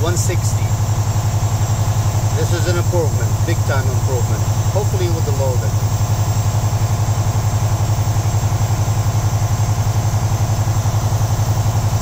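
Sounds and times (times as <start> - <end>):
air compressor building pressure: 0.0 - 12.0
diesel truck engine idling: 0.0 - 12.0.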